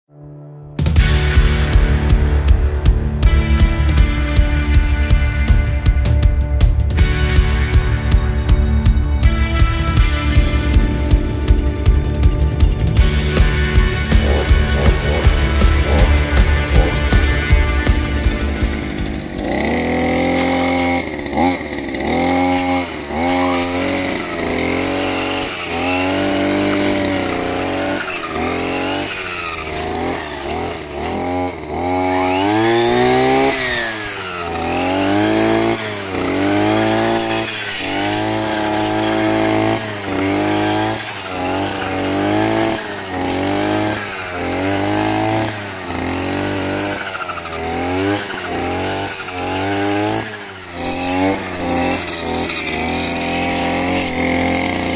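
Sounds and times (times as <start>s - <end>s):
brush cutter engine revving: 10.0s - 54.9s.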